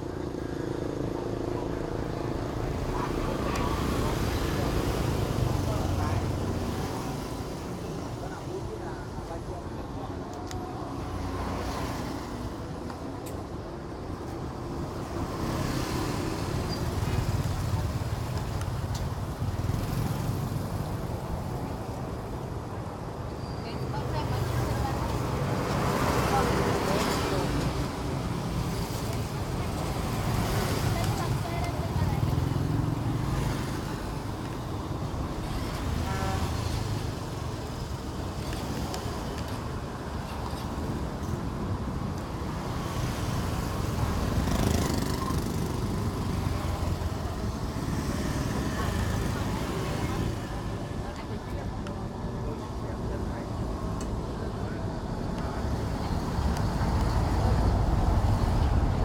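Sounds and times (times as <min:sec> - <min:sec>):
traffic rumble and bustle: 0:00.0 - 0:59.0.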